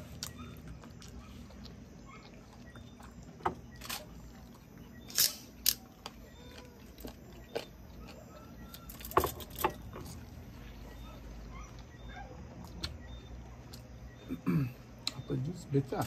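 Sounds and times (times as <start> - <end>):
crunchy chewing: 0.0 - 15.2
low steady hum: 0.0 - 16.0.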